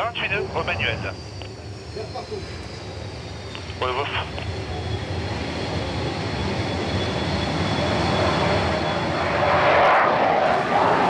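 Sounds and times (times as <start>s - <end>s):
jet engine noise: 0.0s - 11.0s.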